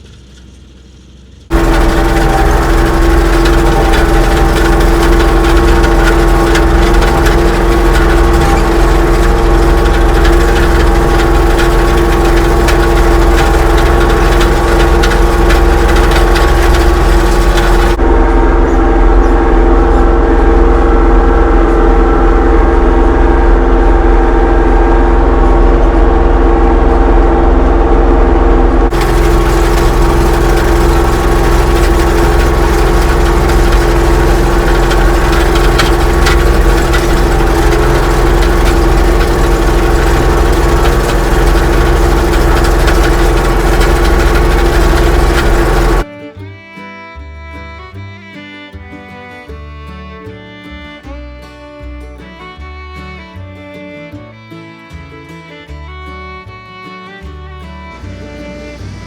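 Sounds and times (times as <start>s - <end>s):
tractor engine running: 0.0s - 46.2s, 54.8s - 59.0s.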